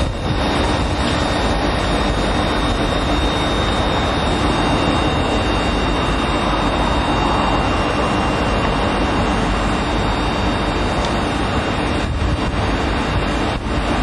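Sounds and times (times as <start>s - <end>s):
railcar hum and fan noise: 0.0s - 14.0s
thin high whine: 0.0s - 14.0s.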